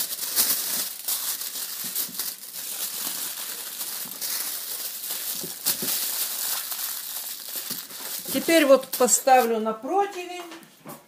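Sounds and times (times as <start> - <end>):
aluminium foil crinkling: 0.0 - 9.7.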